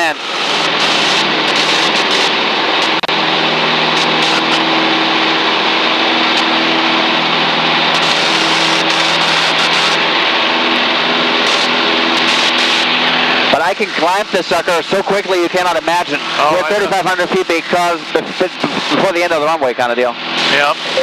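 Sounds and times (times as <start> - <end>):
small plane engine drone in cabin: 0.0 - 21.0.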